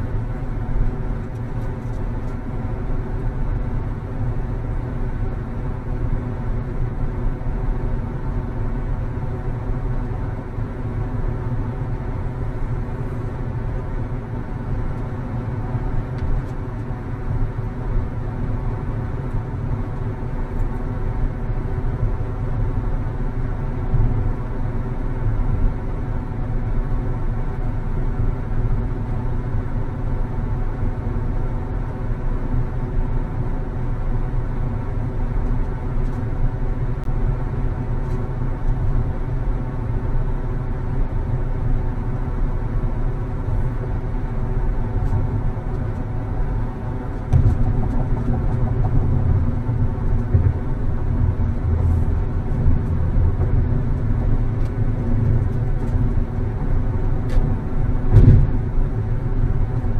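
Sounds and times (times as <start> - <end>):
car engine rumble: 0.0 - 59.9
road and tyre noise: 0.0 - 59.9.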